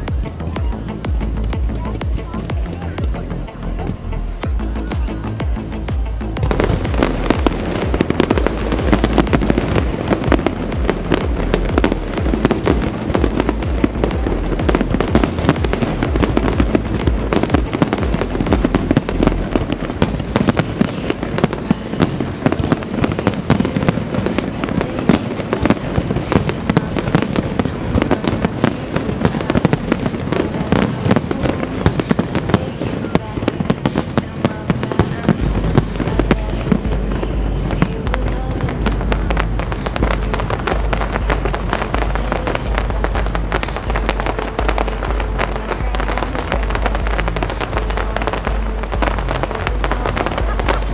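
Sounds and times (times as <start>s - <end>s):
fireworks cracking and banging: 0.0s - 50.9s
music playing: 0.0s - 50.9s.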